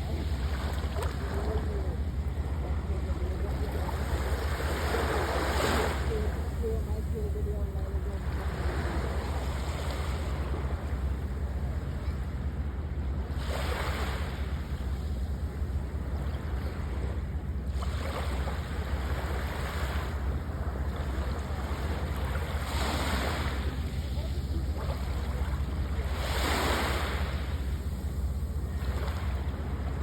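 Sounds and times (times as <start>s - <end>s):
sea waves breaking on shore: 0.0s - 30.0s.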